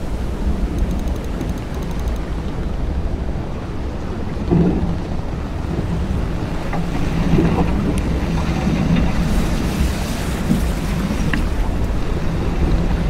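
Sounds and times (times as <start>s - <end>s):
seawater churning around boat hull: 0.0s - 13.0s
wind noise on microphone: 0.0s - 13.0s.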